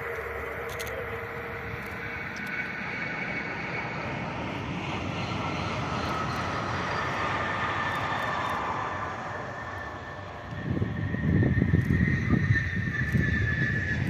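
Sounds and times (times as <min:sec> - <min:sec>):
distant train passing at speed: 0:00.0 - 0:14.0
faint train whine: 0:00.0 - 0:14.0.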